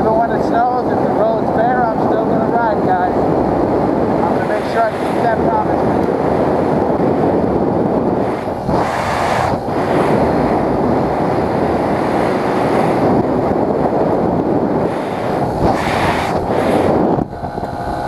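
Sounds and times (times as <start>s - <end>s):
wind buffeting microphone: 0.0s - 18.0s
scooter engine running: 3.0s - 18.0s.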